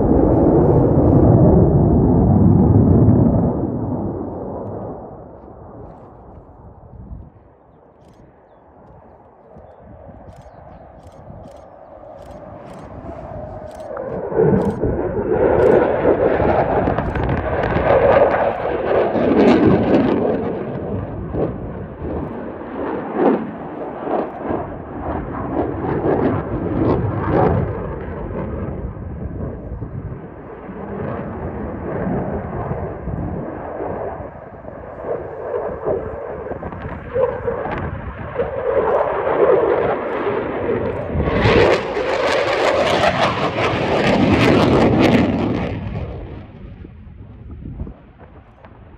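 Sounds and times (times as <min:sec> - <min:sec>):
crackling jet engine roar: 0:00.0 - 0:48.9.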